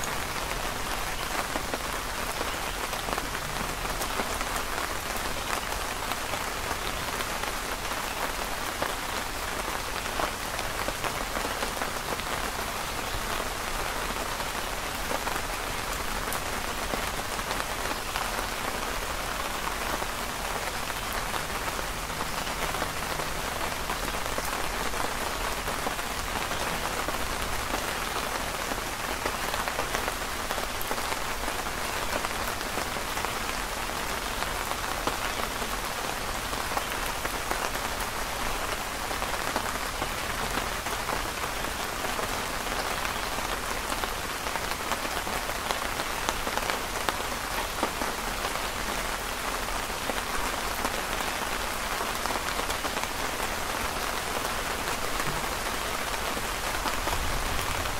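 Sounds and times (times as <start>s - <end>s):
steady rain patter: 0.0s - 57.9s.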